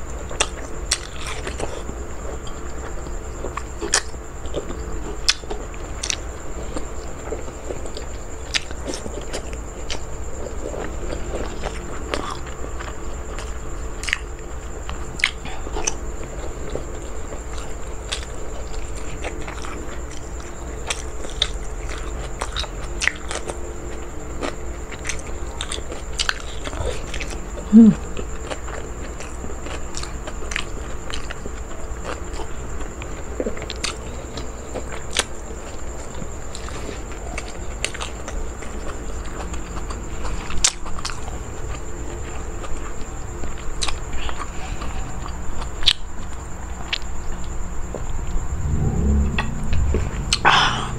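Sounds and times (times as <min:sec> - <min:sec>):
person chewing food: 0:00.3 - 0:27.4, 0:28.0 - 0:47.1.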